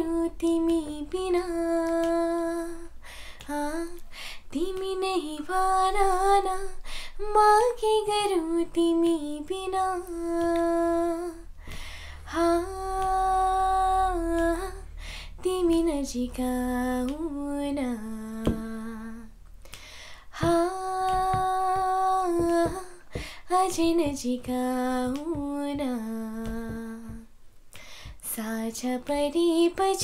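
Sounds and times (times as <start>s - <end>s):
girl singing unaccompanied: 0.0s - 11.6s, 12.2s - 19.4s, 20.2s - 27.4s, 28.0s - 30.0s.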